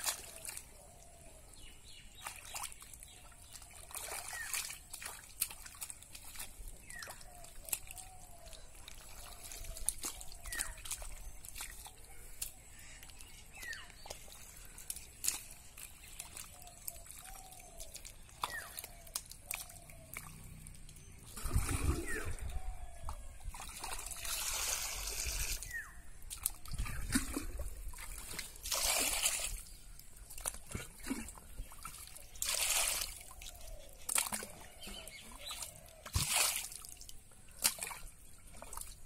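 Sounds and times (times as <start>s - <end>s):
hands squelching wet mud: 0.0s - 1.3s, 2.0s - 39.0s.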